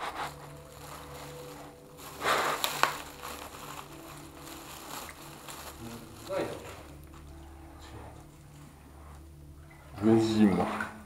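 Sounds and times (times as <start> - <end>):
plastic bag rustling and crinkling: 0.0 - 9.3.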